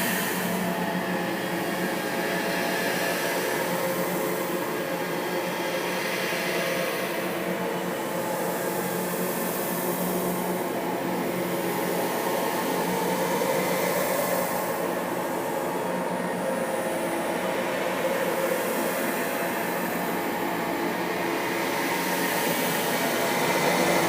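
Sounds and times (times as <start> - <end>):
hiss: 0.0 - 24.0.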